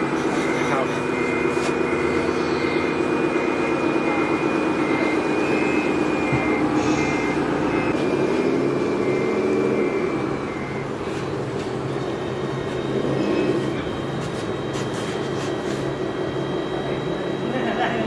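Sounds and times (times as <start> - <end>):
diesel engine running: 0.0 - 18.0
reversing alarm beeping: 0.0 - 18.0.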